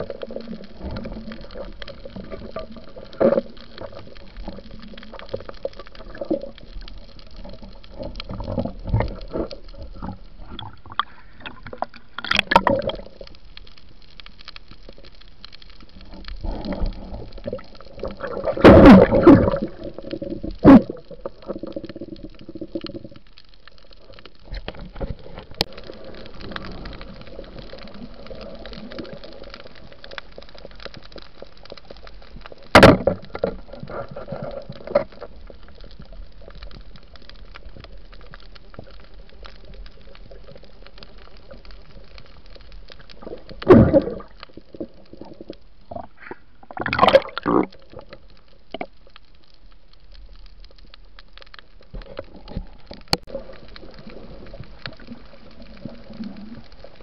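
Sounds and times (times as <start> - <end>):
underwater crackle of fine ticks: 0.0 - 57.0
water and bubbles rushing: 0.0 - 57.0.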